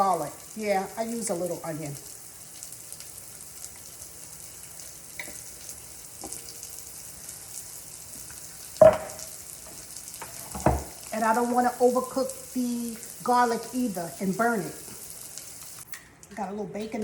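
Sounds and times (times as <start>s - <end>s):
onion and garlic sizzling in oil: 0.0s - 16.5s.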